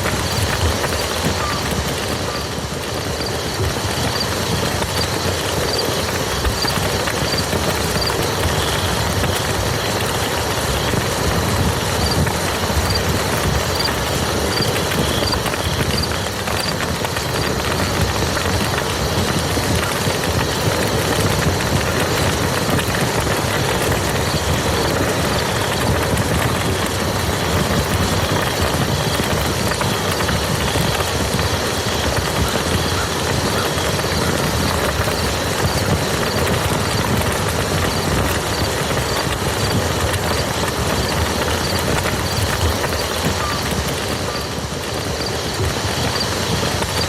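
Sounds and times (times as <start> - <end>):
steady rain hissing: 0.0 - 47.0.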